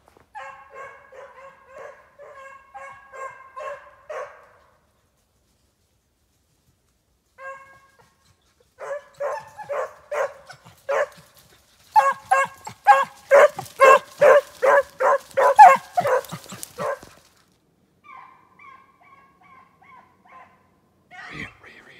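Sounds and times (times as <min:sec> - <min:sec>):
hound barking in high yelps: 0:00.3 - 0:04.6, 0:07.4 - 0:17.2, 0:18.0 - 0:21.5.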